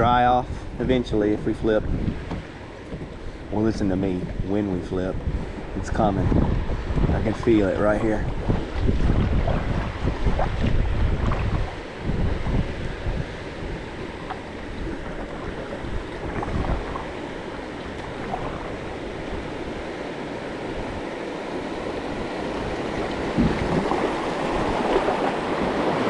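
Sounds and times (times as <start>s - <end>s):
wind buffeting microphone: 0.0s - 26.0s
river water rushing: 2.5s - 26.0s.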